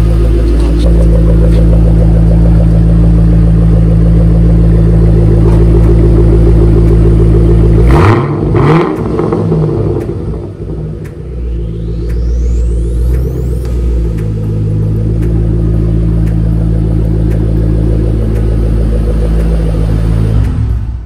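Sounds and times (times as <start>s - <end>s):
car engine idling: 0.0s - 21.0s
engine revving bursts: 0.0s - 21.0s.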